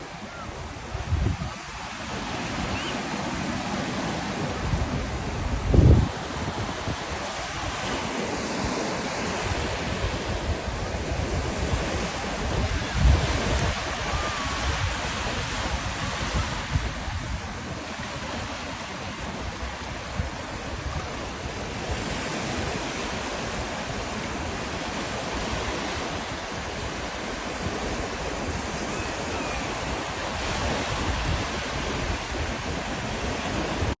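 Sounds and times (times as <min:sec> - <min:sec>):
rushing water: 0:00.0 - 0:34.0
wind buffeting microphone: 0:00.0 - 0:34.0.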